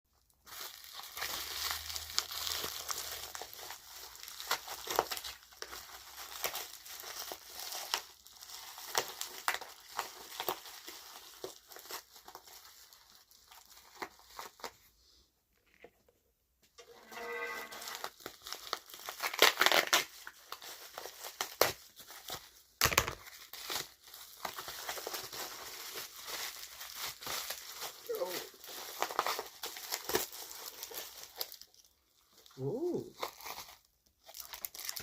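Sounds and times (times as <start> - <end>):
packaging crinkling and rustling: 0.1 - 14.9, 16.8 - 35.0.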